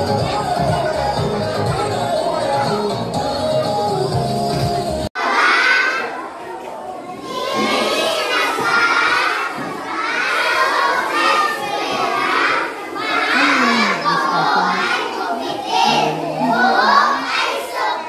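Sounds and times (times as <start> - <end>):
children shouting and cheering: 0.0 - 18.0.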